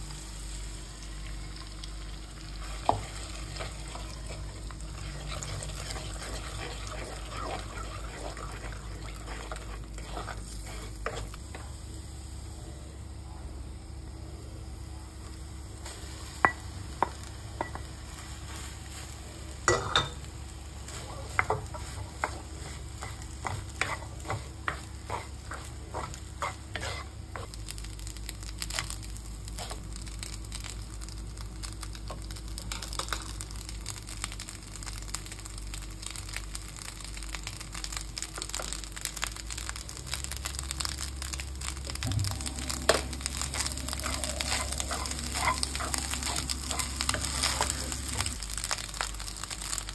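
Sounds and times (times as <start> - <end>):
light sizzle: 0.0 - 49.9.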